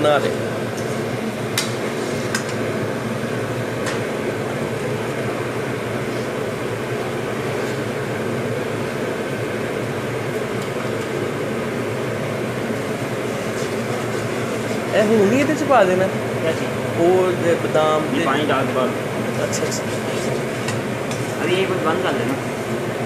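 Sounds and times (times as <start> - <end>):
kitchen exhaust fan hum: 0.0 - 23.0.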